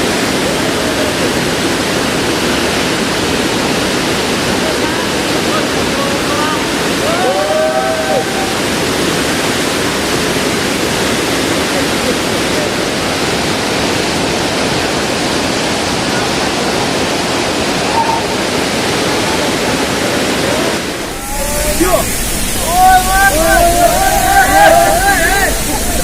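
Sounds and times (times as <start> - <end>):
waterfall crashing: 0.0 - 26.0.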